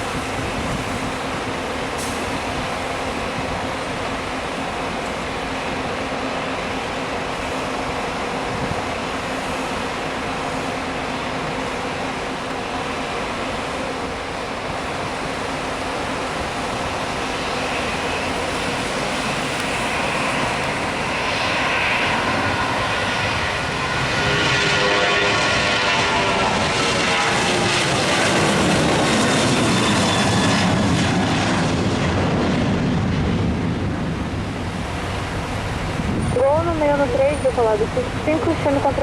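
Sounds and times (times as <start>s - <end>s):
engine whine: 0.0s - 39.0s
jet engines rushing: 0.0s - 39.0s.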